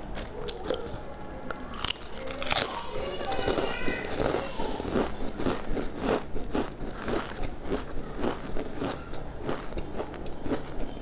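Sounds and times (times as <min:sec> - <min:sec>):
potato chips being chewed: 0:00.0 - 0:11.0.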